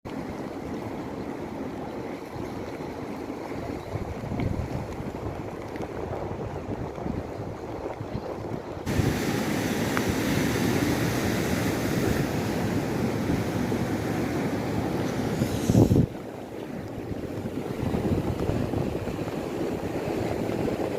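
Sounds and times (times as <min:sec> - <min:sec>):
waves washing: 0:00.1 - 0:20.9
wind on microphone: 0:01.9 - 0:20.9.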